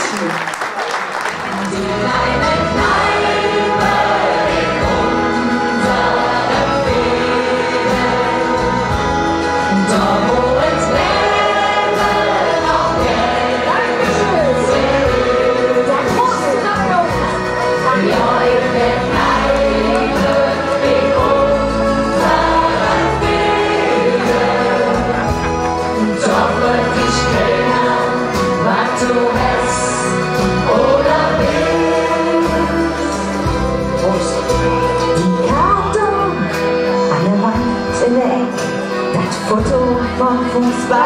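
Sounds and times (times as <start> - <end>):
upbeat instrumental backing: 1.0 - 41.0
women's group singing: 1.6 - 36.4.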